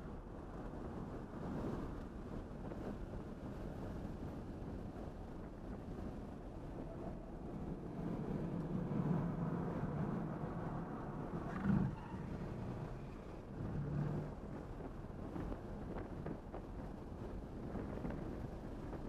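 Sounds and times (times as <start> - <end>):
tyre road and wind noise: 0.0 - 19.0.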